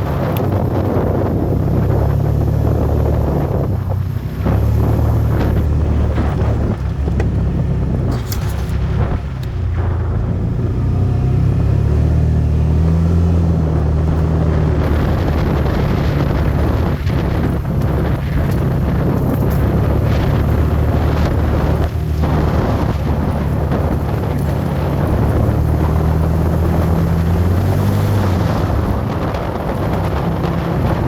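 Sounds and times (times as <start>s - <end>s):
vehicle engine running: 0.0s - 31.0s
wind buffeting microphone: 0.0s - 31.0s.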